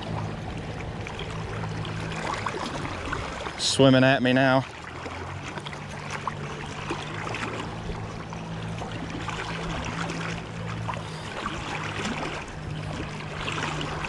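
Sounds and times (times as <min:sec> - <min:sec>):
running river water: 0:00.0 - 0:14.0
steady low hum: 0:00.0 - 0:14.0.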